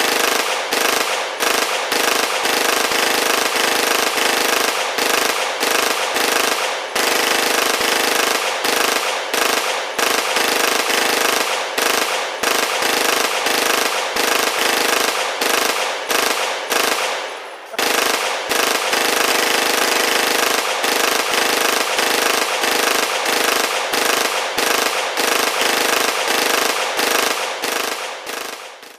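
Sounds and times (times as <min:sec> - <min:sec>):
rapid automatic gunfire rattle: 0:00.0 - 0:28.9.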